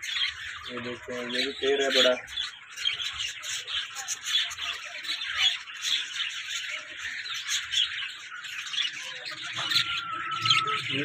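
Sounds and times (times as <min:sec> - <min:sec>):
parrots chattering and squawking: 0:00.0 - 0:11.0.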